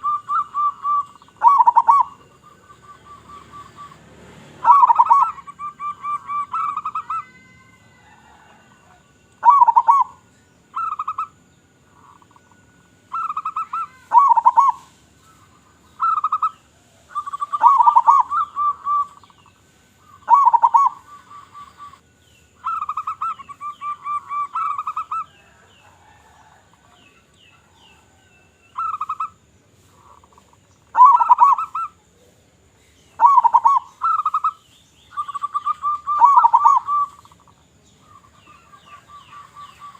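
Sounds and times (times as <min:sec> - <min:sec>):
doves cooing: 0:00.0 - 0:22.0, 0:22.6 - 0:39.9.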